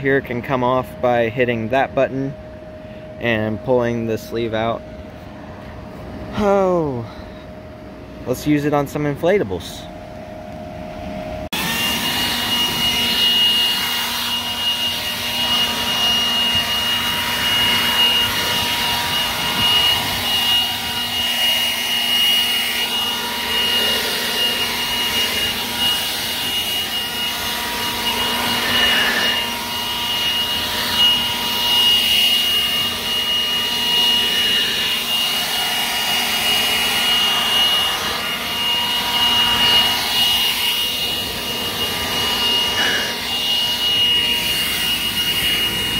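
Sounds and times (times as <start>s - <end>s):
leaf blower whining: 0.0s - 45.9s.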